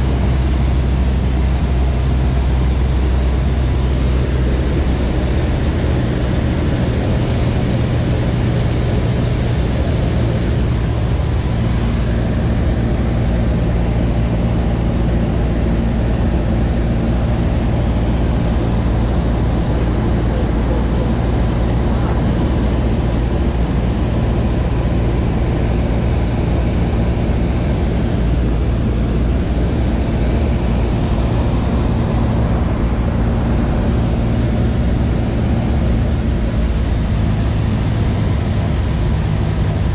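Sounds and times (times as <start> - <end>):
aircraft engine drone: 0.0 - 39.9
airflow noise: 3.3 - 39.9.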